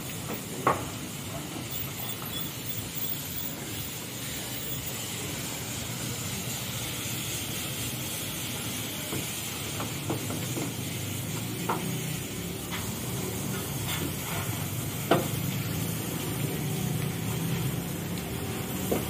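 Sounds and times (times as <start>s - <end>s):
high-pressure water spray hissing: 0.0s - 19.0s.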